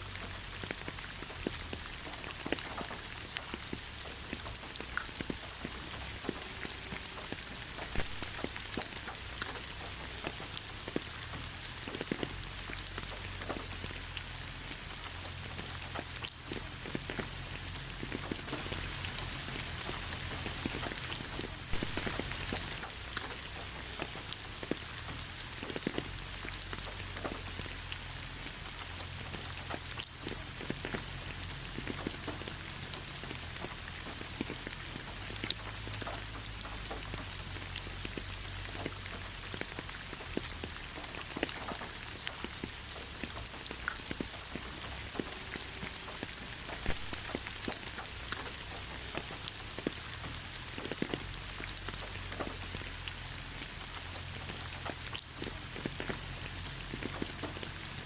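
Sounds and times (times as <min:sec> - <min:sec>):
raindrops pattering on a surface: 0:00.0 - 0:58.0
steady rain hiss: 0:00.0 - 0:58.0.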